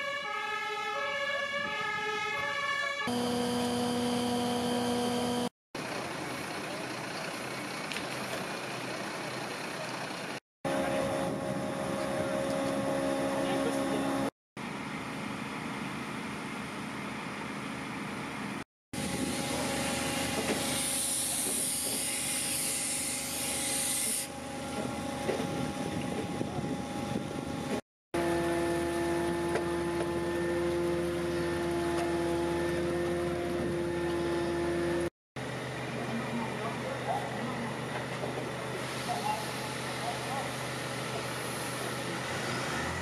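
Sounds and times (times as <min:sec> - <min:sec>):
fire engine diesel engines humming: 0:00.0 - 0:22.4, 0:24.2 - 0:43.0.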